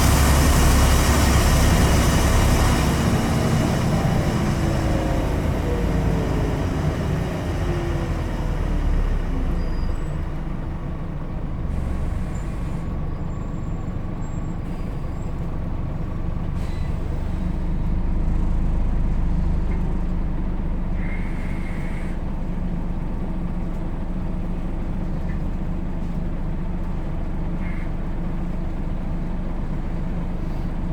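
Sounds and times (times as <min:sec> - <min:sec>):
bus engine droning: 0:00.0 - 0:30.9.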